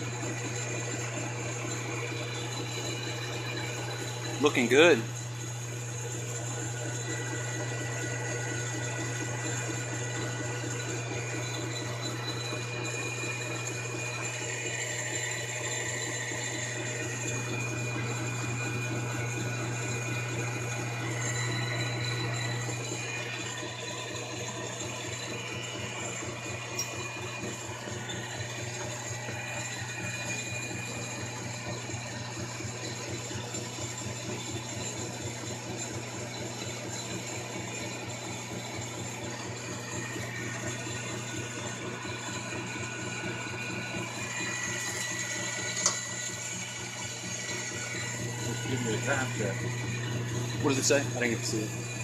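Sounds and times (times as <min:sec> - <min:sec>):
lathe motor hum: 0:00.0 - 0:52.0.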